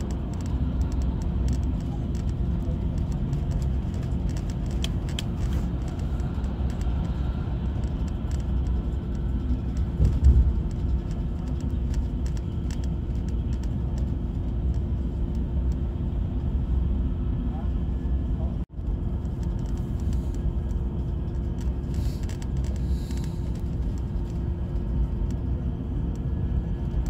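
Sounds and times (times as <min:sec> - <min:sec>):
bus engine and road rumble: 0:00.0 - 0:27.0
steady hum: 0:00.0 - 0:27.0.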